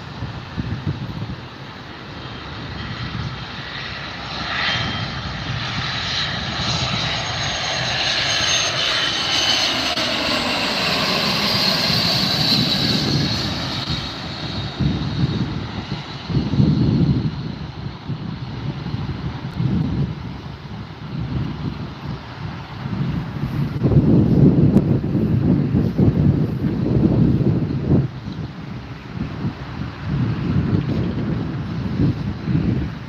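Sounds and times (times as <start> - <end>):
jet airplane engines passing: 0.0 - 33.0.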